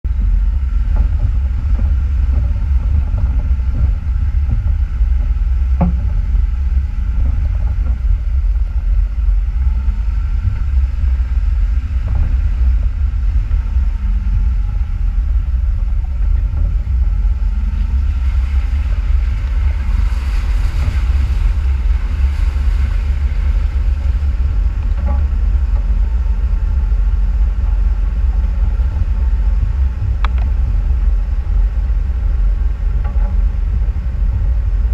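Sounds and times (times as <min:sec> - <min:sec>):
off-road vehicle engine rumble: 0:00.0 - 0:34.9.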